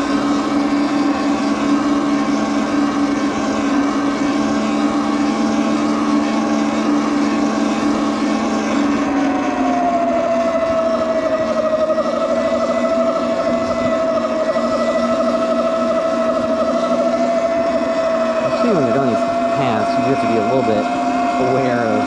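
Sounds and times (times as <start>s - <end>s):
higher tone sliding down: 0.0s - 22.0s
motor drone: 0.0s - 22.0s.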